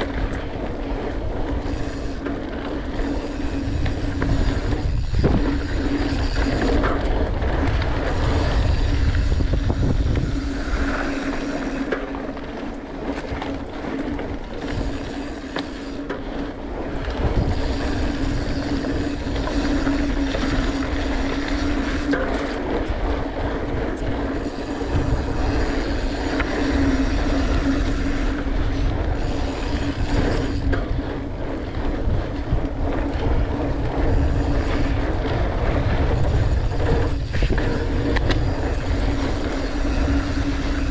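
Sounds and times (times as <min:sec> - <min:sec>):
bike rattle: 0:00.0 - 0:40.9
bike tyres rolling on dirt: 0:00.0 - 0:40.9
freewheeling hub buzz: 0:00.0 - 0:40.9
wind rumble on microphone: 0:00.0 - 0:40.9.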